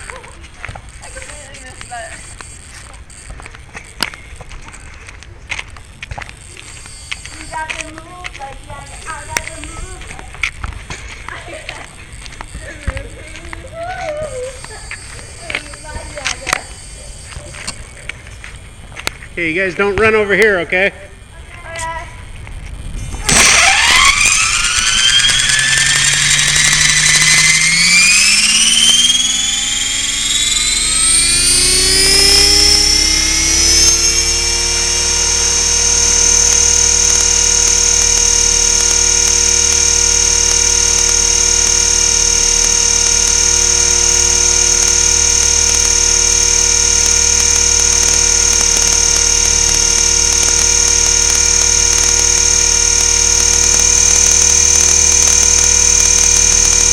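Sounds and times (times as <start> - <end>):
electric helicopter motor whine: 0.0 - 56.9.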